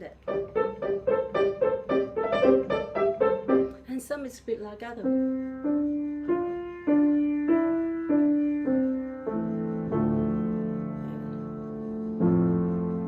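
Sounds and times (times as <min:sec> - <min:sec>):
slow piano melody: 0:00.2 - 0:03.9, 0:05.0 - 0:13.0.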